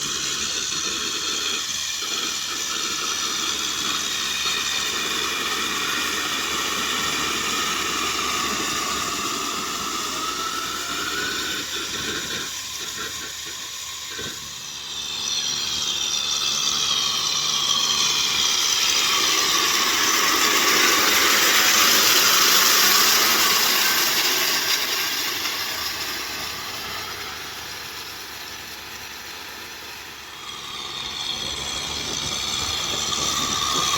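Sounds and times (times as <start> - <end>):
rotavator working: 0.0 - 33.9
tractor diesel engine running: 0.0 - 33.9.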